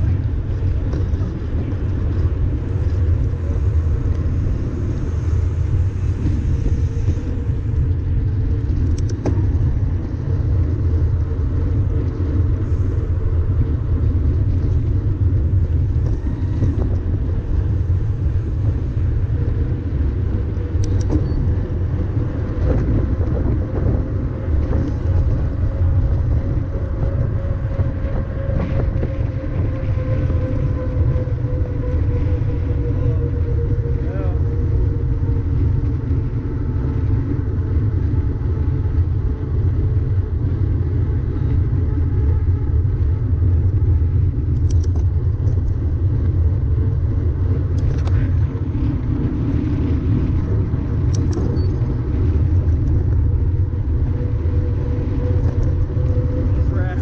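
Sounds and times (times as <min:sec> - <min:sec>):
bike tyres rolling on asphalt: 0:00.0 - 0:57.0
wind buffeting camera: 0:00.0 - 0:57.0.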